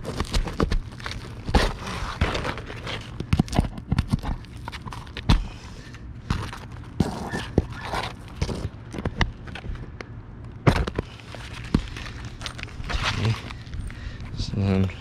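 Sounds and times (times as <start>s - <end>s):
knocks and scraping on shingles: 0.0s - 9.9s, 10.6s - 14.0s.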